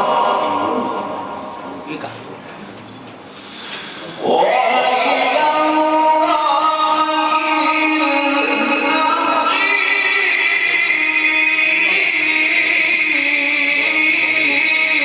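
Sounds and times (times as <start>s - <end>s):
person chanting melodic recitation: 0.0s - 2.4s, 3.6s - 15.0s.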